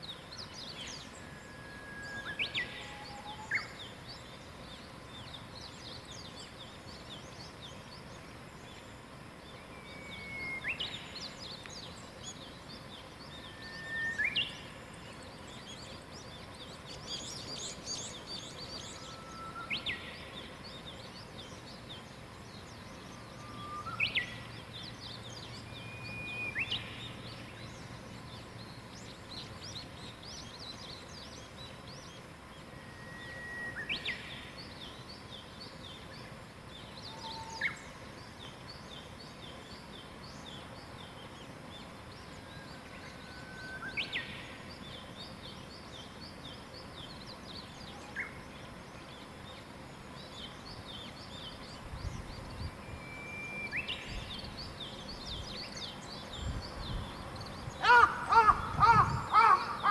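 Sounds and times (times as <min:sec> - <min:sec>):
outdoor hiss: 0:00.0 - 0:59.9.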